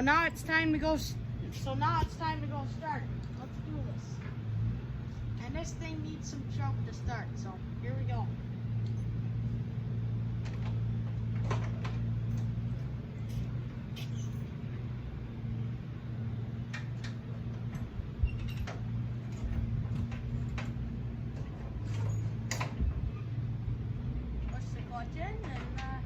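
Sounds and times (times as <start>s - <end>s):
low machine drone: 0.0s - 26.0s.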